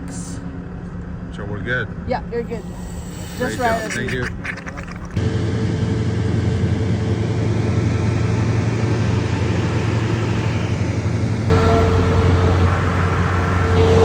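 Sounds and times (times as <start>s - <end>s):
heavy machinery engine humming: 2.1s - 14.0s
high machine whine: 2.2s - 14.0s.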